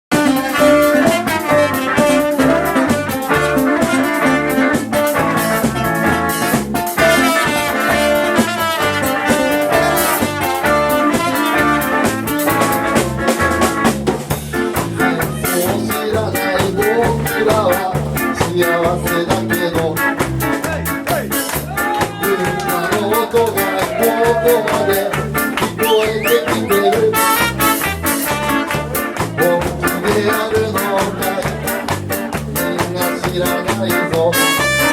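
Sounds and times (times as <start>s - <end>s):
live band playing upbeat tune: 0.1s - 34.9s
steady drum beat: 0.1s - 34.9s.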